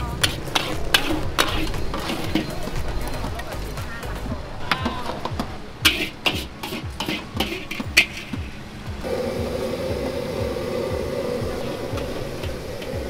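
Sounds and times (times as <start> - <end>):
metal utensils clinking: 0.0 - 13.0
music with thumping beat: 0.0 - 13.0
steady rushing burner noise: 0.0 - 13.0.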